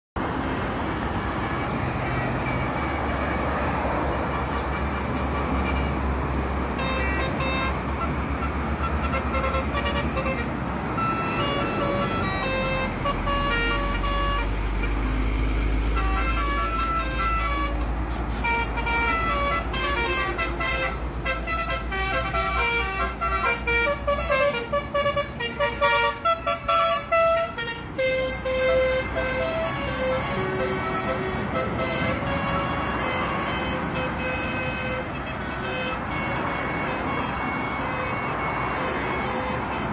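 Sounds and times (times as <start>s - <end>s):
bus engine: 0.2s - 39.9s
road noise rushing: 0.2s - 39.9s
multi-tone bus horn honks: 1.2s - 39.9s.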